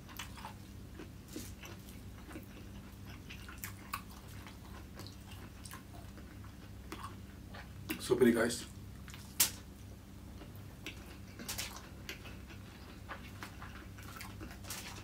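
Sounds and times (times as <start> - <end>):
person chewing: 0.0 - 8.0, 9.0 - 9.6, 10.3 - 15.0
faint low hum: 0.0 - 15.0.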